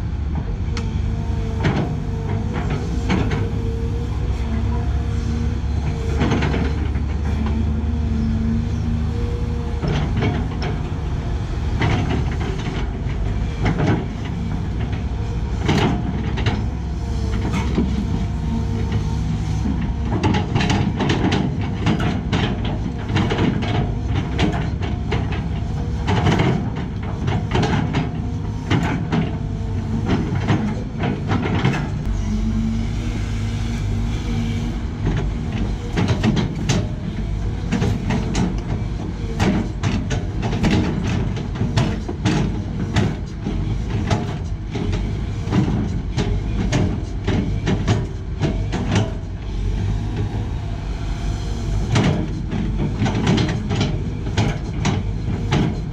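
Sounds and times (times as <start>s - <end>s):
excavator engine and hydraulics: 0.0s - 55.9s.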